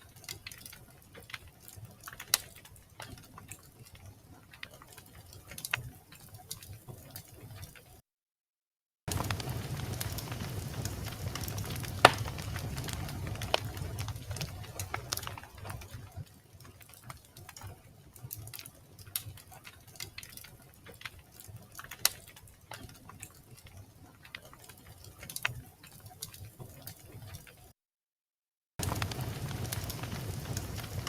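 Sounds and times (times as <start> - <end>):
fire popping and snapping: 0.0 - 8.0, 9.1 - 27.6, 28.8 - 31.0
wood fire crackling: 0.0 - 8.0, 9.1 - 27.7, 28.8 - 31.0.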